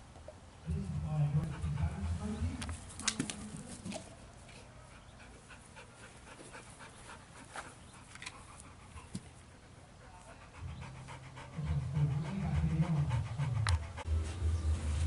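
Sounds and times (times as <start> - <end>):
dog panting softly: 1.4 - 14.1.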